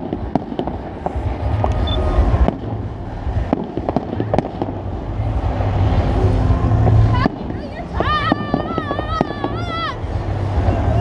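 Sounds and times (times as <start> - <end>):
low rumble of bursting shells: 0.0 - 10.8
fireworks cracking and popping: 0.0 - 11.0.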